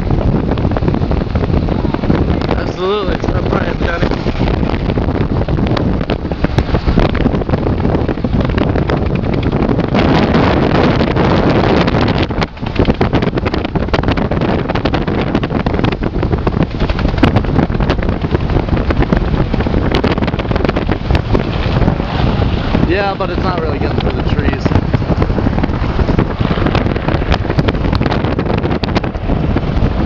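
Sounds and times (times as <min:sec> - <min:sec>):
car road noise: 0:00.0 - 0:30.0
wind buffeting microphone: 0:00.0 - 0:30.0.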